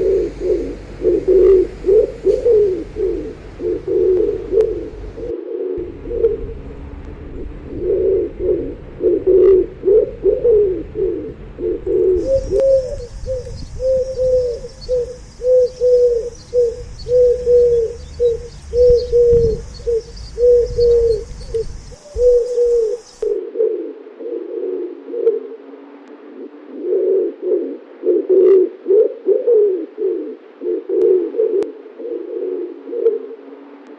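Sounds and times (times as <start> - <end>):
pigeons cooing: 0.0 - 33.9.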